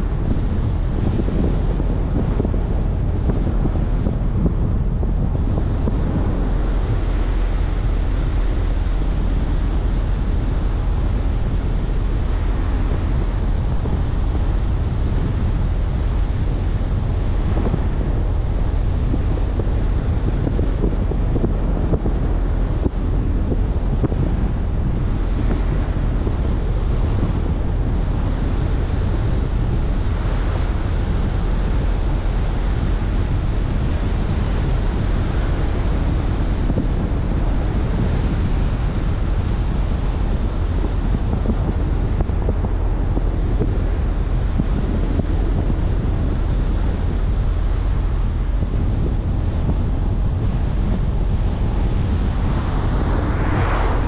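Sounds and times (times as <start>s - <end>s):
wind buffeting the microphone: 0.0s - 54.0s.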